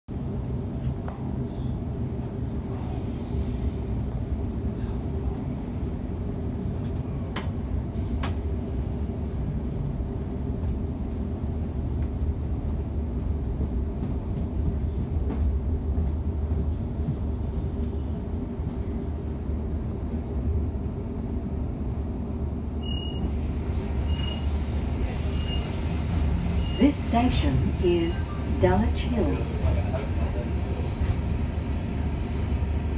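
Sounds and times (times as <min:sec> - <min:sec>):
freight train rumbling past: 0:00.1 - 0:32.9.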